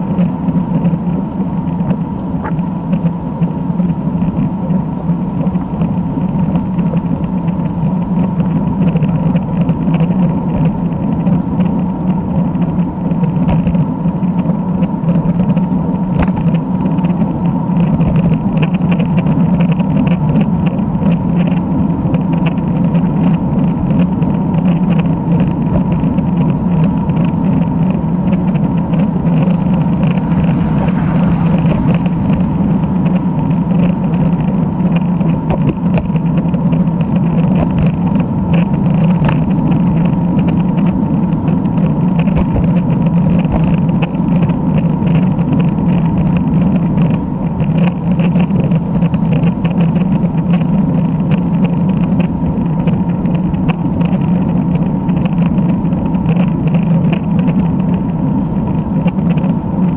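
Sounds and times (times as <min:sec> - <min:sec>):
bicycle road and wind noise: 0:00.0 - 0:59.9.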